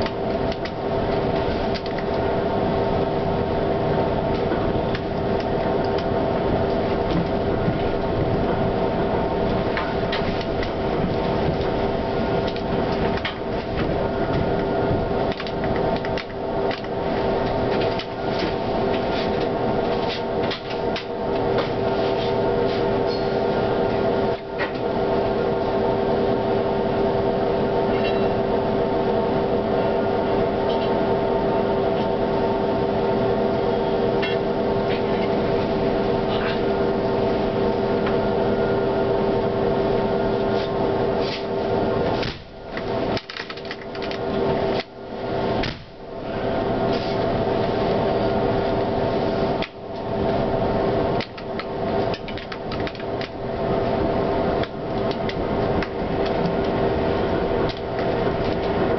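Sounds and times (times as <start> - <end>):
electrical hum: 0.0 - 58.9.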